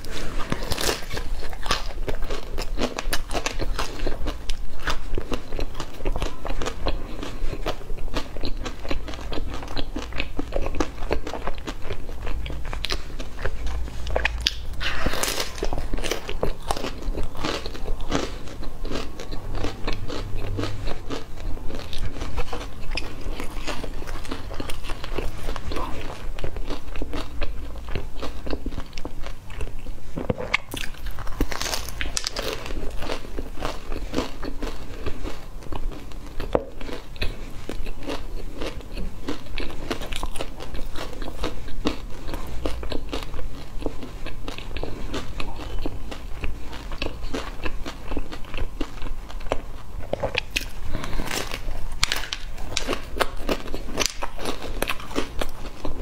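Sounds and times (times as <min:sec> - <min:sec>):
crunchy chewing: 0:00.0 - 0:56.0.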